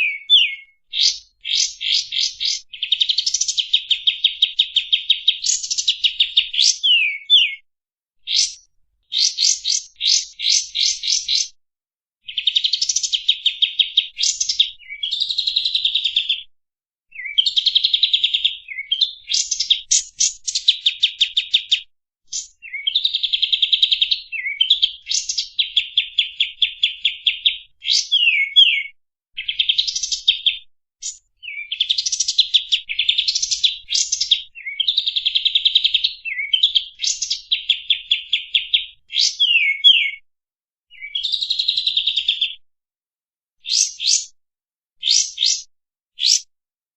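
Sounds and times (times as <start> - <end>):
songbird trills and chirps: 0.0 - 7.6, 8.2 - 11.6, 12.2 - 16.4, 17.1 - 40.2, 40.9 - 42.5, 43.6 - 44.3, 45.0 - 46.4.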